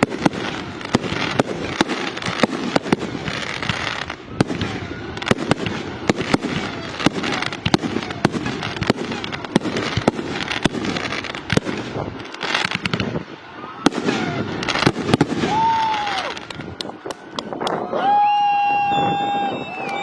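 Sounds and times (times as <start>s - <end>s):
continuous haze of noise: 0.0s - 20.0s
fireworks bangs: 0.0s - 20.0s.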